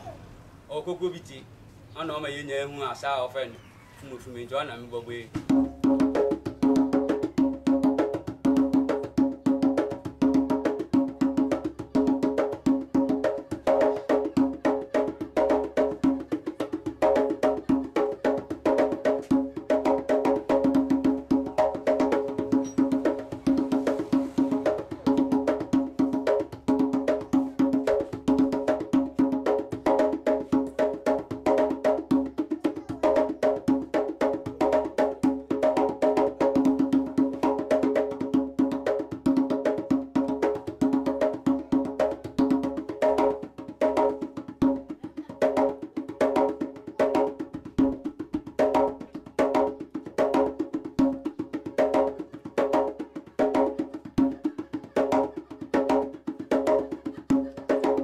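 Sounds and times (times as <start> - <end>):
djembe played by hand: 5.3 - 58.0.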